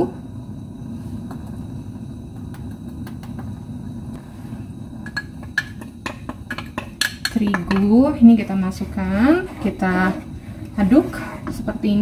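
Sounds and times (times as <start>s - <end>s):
kitchen background rumble: 0.0s - 12.0s.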